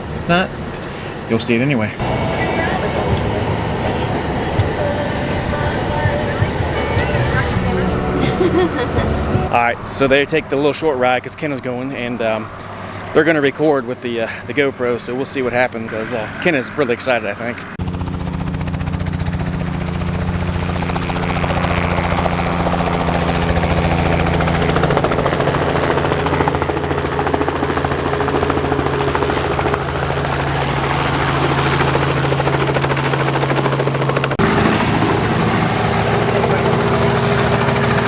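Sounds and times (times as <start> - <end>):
helicopter droning: 0.0 - 38.0.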